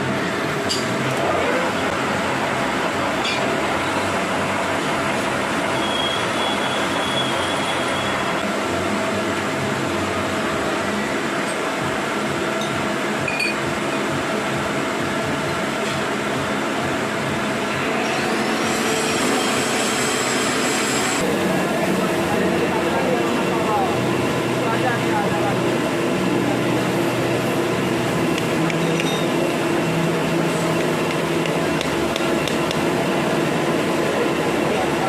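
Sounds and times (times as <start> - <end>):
machine running: 0.0 - 35.0.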